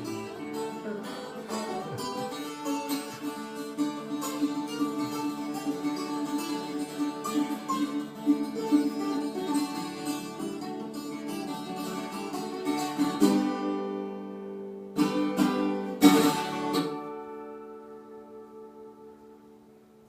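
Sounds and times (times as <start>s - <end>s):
guitar picking and strummed chords: 0.0s - 20.0s.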